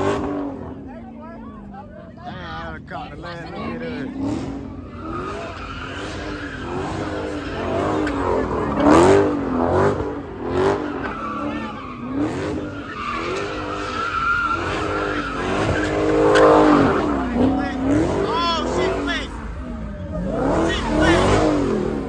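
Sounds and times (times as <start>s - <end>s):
car engine revving: 0.0s - 22.0s
tires squealing and skidding: 0.0s - 22.0s.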